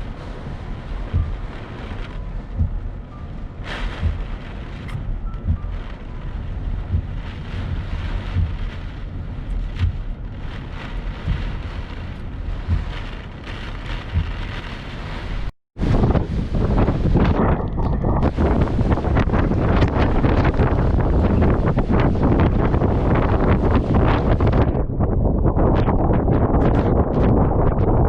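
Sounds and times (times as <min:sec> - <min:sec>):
wind-driven rain hiss: 0:00.0 - 0:17.6, 0:18.2 - 0:24.8
wind buffeting microphone: 0:00.0 - 0:28.0.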